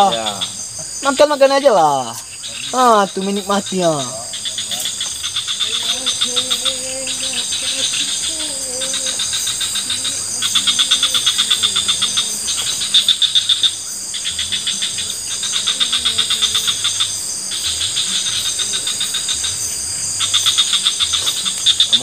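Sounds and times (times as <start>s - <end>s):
cricket-like trill: 0.0s - 22.0s
insects buzzing: 0.0s - 22.0s.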